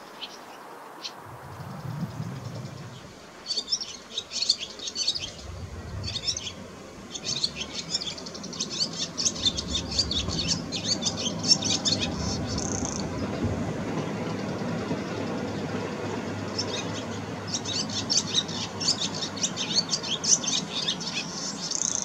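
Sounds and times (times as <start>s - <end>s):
swallow twittering song: 0.0s - 22.0s.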